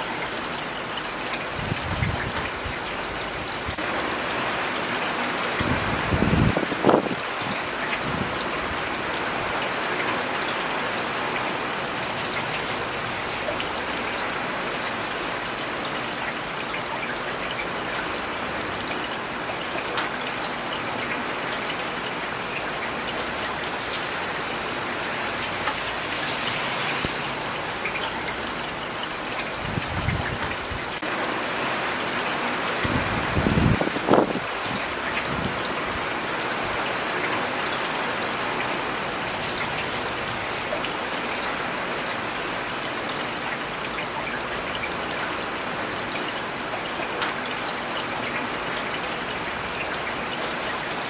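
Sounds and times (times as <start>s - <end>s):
rain falling: 0.0s - 51.0s.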